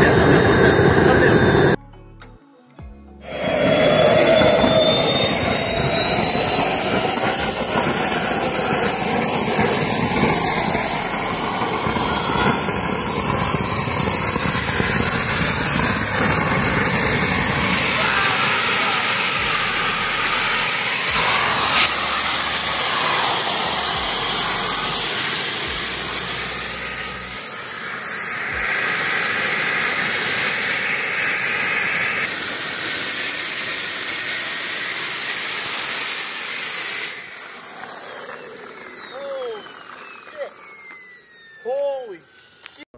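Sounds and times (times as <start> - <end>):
high turbine whine: 0.0 - 1.8, 3.2 - 42.9
model jet engine blast: 0.0 - 1.8, 3.3 - 42.9.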